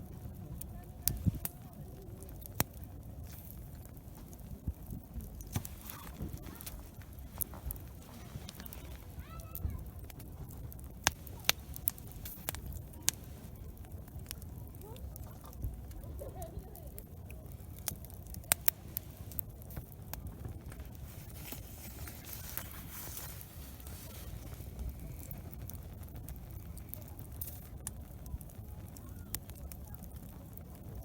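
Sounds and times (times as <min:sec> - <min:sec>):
soft hiss: 0:00.0 - 0:30.8
campfire crackling and popping: 0:00.0 - 0:31.0.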